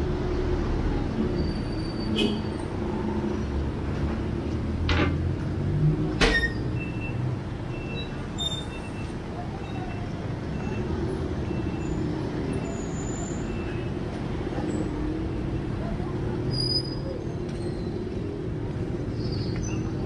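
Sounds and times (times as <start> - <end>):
vehicle engines rumbling: 0.0 - 20.0.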